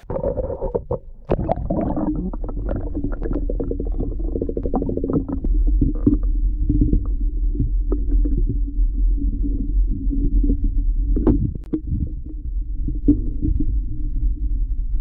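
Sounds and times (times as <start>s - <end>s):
muffled underwater rumble: 0.0s - 15.0s
small underwater clicks and knocks: 0.0s - 15.0s.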